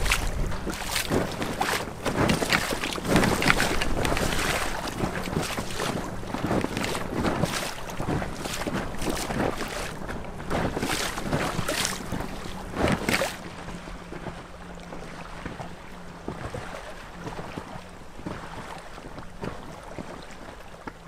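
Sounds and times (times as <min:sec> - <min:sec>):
wind buffeting microphone: 0:00.0 - 0:18.4
water splashing against boat hull: 0:00.0 - 0:21.0.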